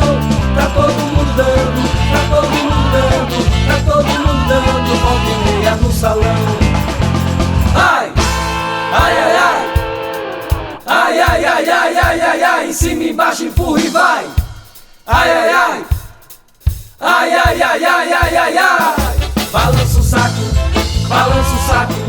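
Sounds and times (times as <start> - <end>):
upbeat carnival band music: 0.0 - 22.0.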